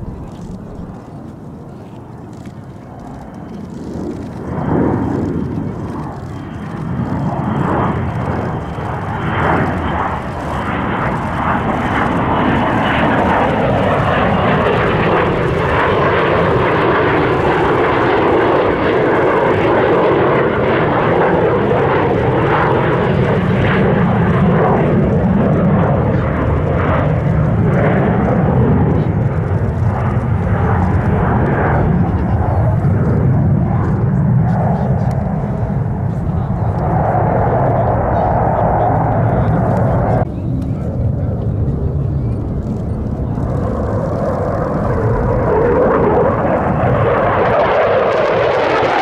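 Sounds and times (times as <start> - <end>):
jet engine roar: 0.0 - 49.0.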